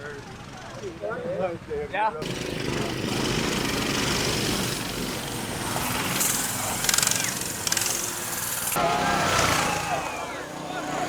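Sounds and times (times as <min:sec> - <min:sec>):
minibike engines running: 0:00.0 - 0:11.0.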